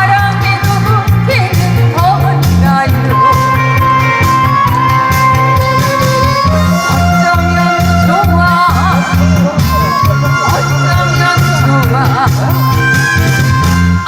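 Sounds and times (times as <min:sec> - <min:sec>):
person singing: 0:00.0 - 0:14.0
pulsing bass beat: 0:00.0 - 0:14.0.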